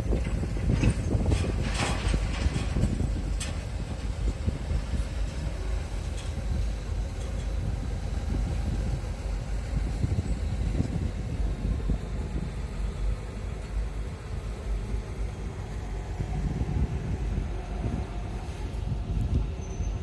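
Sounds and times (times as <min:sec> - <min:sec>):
boat engine rumbling: 0:00.0 - 0:20.0
wind buffeting microphone: 0:00.0 - 0:20.0.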